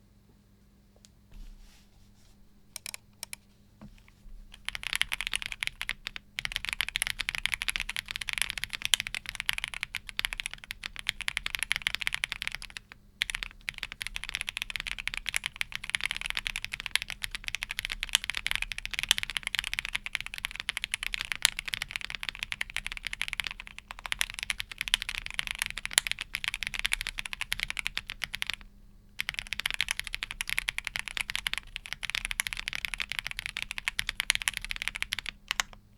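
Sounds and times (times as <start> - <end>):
mechanical keyboard typing: 2.7 - 3.4, 4.5 - 28.6, 29.2 - 35.8.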